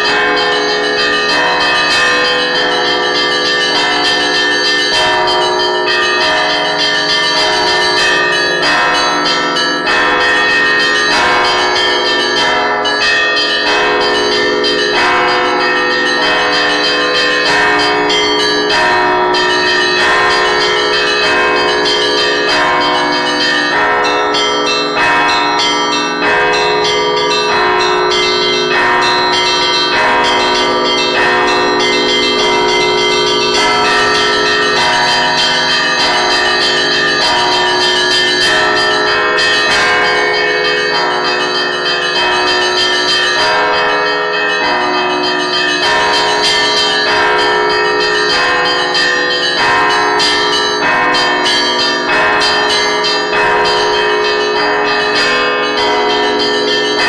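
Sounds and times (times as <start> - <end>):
deep ringing bells: 0.0 - 57.0.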